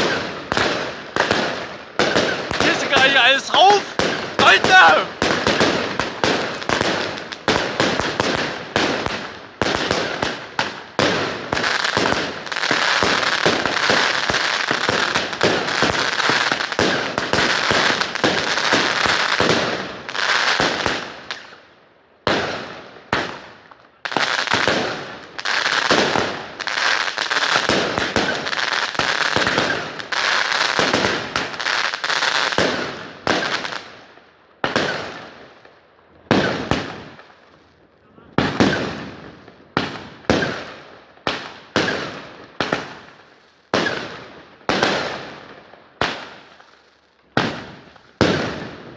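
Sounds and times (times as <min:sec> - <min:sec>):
fireworks crackling: 0:00.0 - 0:21.6, 0:22.4 - 0:48.8
fireworks cracks and bangs: 0:00.0 - 0:21.6, 0:22.2 - 0:48.9.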